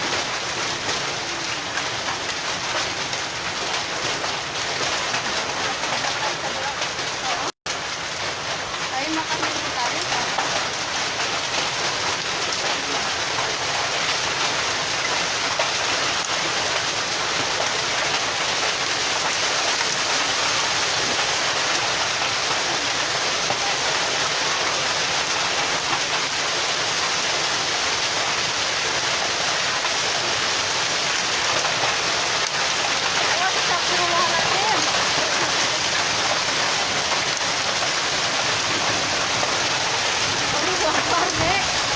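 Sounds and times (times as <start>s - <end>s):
heavy rain and hail pelting: 0.0s - 41.9s.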